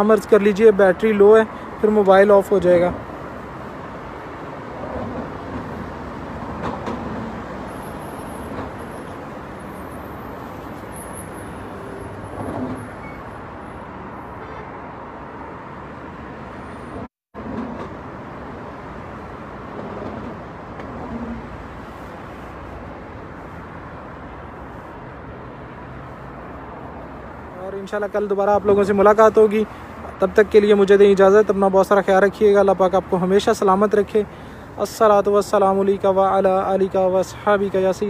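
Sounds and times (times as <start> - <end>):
road traffic from inside a car: 0.0 - 38.0.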